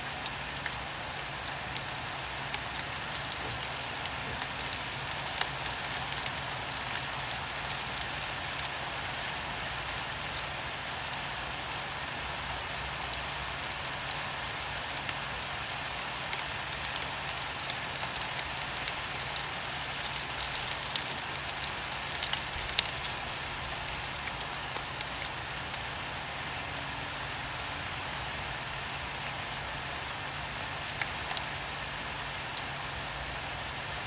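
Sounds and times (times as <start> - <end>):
raindrops ticking on a surface: 0.0 - 34.0
steady rain hiss: 0.0 - 34.0.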